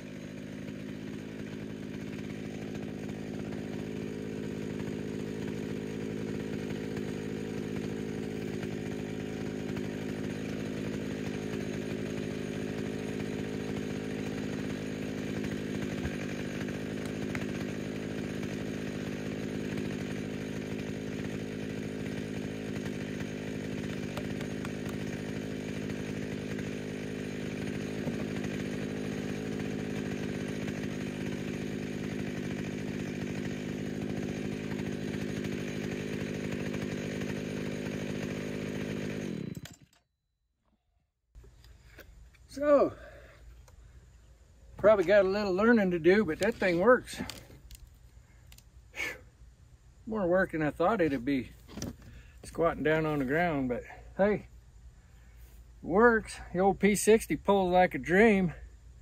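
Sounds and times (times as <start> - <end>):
chainsaw idling: 0.0 - 40.0, 41.4 - 59.0.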